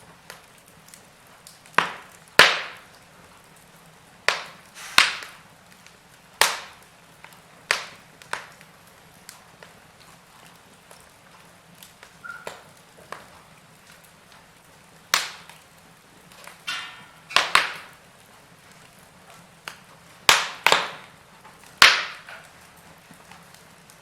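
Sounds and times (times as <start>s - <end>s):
faint steady hiss: 0.0s - 24.0s
wood fire crackling: 0.0s - 24.0s.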